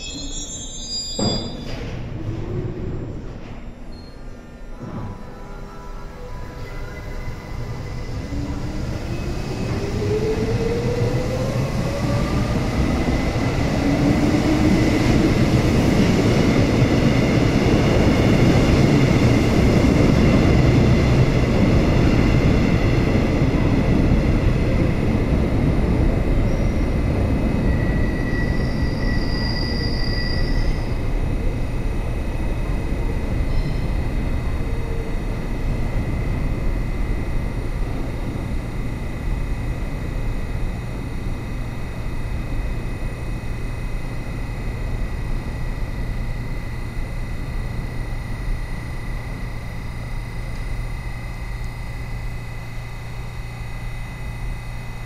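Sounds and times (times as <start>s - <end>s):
electric train whine: 0.0s - 55.0s
train wheels rumbling on rail: 1.1s - 3.9s, 7.5s - 55.0s.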